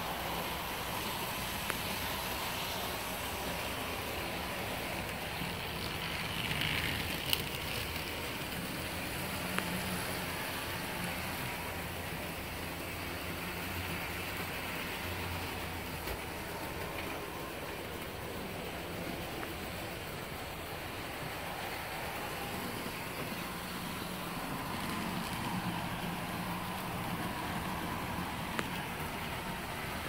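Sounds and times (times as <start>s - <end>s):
model train motors whirring: 0.0s - 30.0s.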